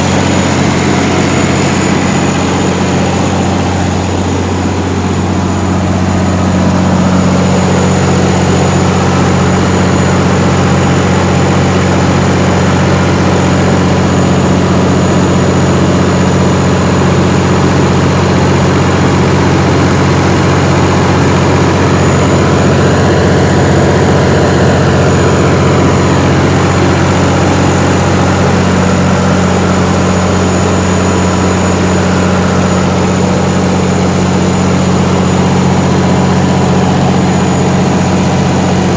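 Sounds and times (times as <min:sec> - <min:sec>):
diesel generator humming: 0:00.0 - 0:38.9.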